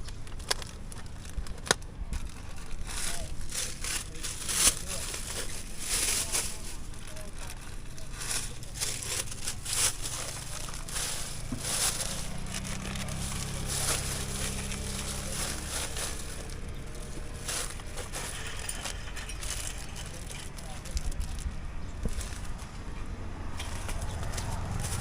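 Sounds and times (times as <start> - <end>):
items being handled: 0.0 - 25.0.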